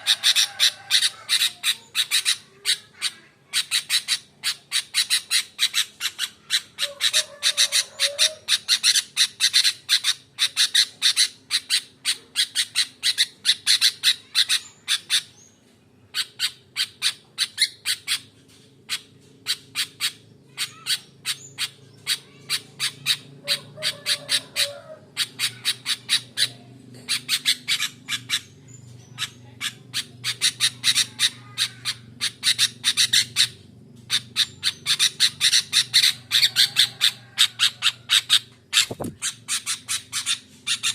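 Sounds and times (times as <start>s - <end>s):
bird sharp repeated calls: 0.0s - 15.5s, 16.1s - 40.9s.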